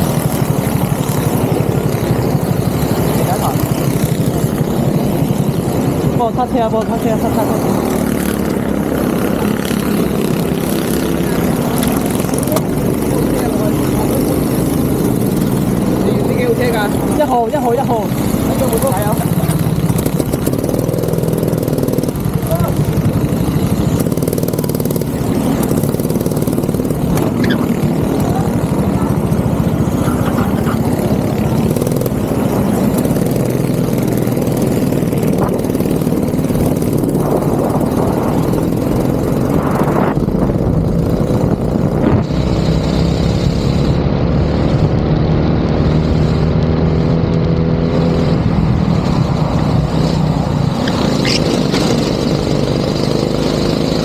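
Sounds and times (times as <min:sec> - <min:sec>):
go-kart engine droning: 0:00.0 - 0:54.0.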